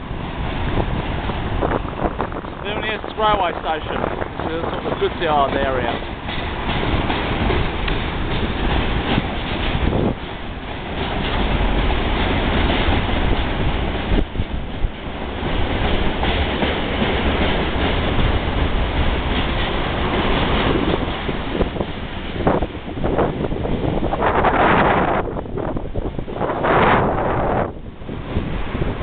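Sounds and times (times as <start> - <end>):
freight train wheels on track: 0.0 - 29.0.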